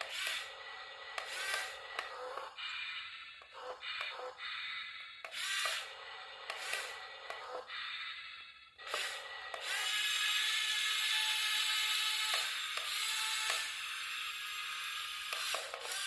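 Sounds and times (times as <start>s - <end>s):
small electric motors whirring: 0.0s - 8.2s, 8.8s - 16.0s.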